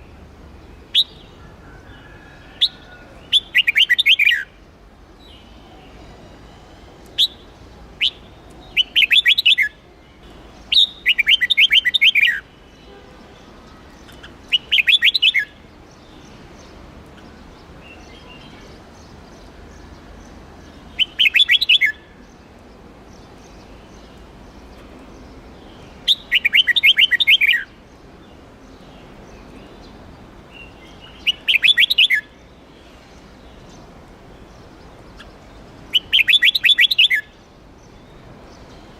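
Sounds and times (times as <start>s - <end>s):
bulbul singing: 0.0s - 1.4s, 2.6s - 4.6s, 5.2s - 22.3s, 23.1s - 27.9s, 28.7s - 32.6s, 34.5s - 38.9s.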